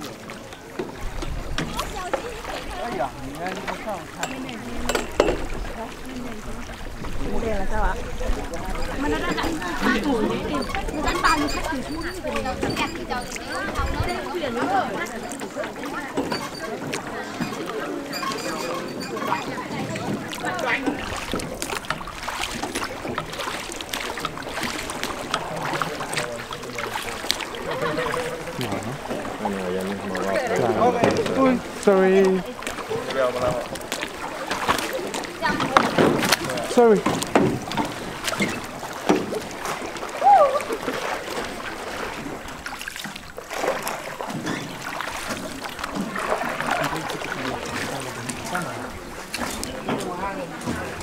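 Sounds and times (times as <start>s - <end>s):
oars splashing and knocking: 0.0s - 51.0s
water washing: 0.0s - 51.0s.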